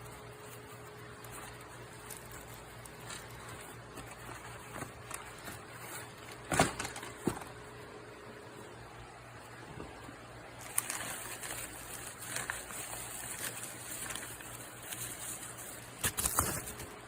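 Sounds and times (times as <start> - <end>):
air conditioner fan humming: 0.0 - 17.0.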